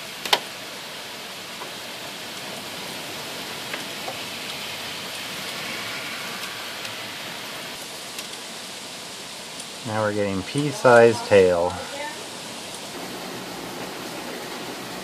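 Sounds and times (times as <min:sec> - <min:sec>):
hailstones ticking: 0:00.0 - 0:15.0
heavy rain pouring: 0:00.0 - 0:15.0.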